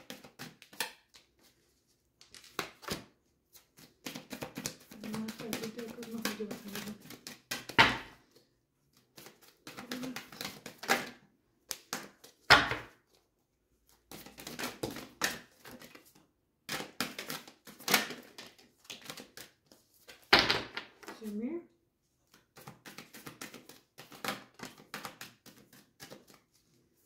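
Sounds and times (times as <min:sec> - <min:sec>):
cards being shuffled: 0:00.0 - 0:13.2, 0:13.8 - 0:21.4, 0:22.2 - 0:27.0.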